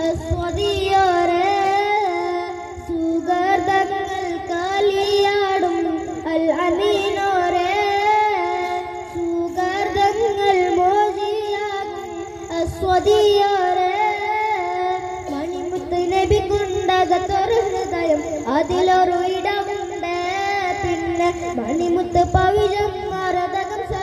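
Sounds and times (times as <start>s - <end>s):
boy singing into a microphone: 0.0s - 24.0s.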